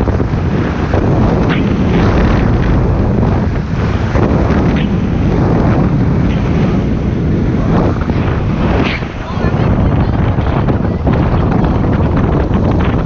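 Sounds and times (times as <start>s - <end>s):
boat engine: 0.0s - 13.0s
water rushing past hull: 0.0s - 13.0s
wind buffeting microphone: 0.0s - 13.0s.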